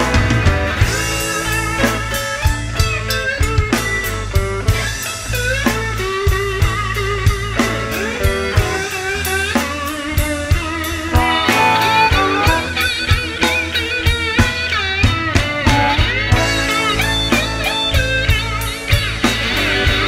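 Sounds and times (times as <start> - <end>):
bass: 0.0 - 20.0
blues guitar solo: 0.0 - 20.0
steady drum beat: 0.0 - 20.0.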